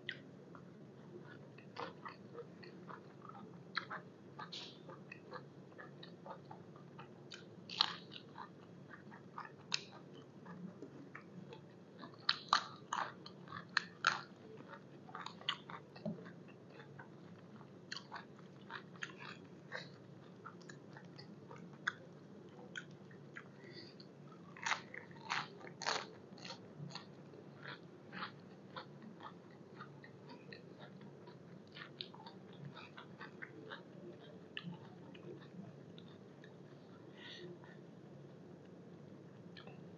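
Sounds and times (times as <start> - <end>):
chewing crisp raw vegetables: 0.1 - 37.0.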